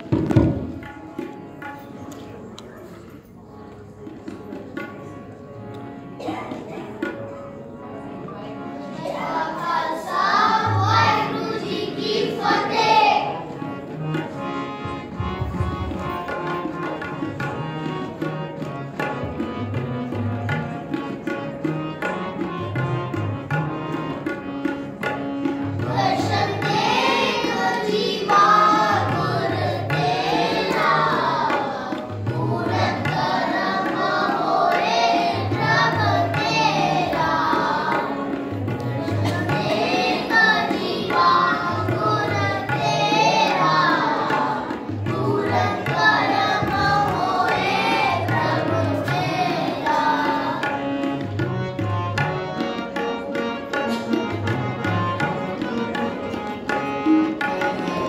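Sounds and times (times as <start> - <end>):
harmonium: 0.0 - 58.0
tabla: 0.0 - 58.0.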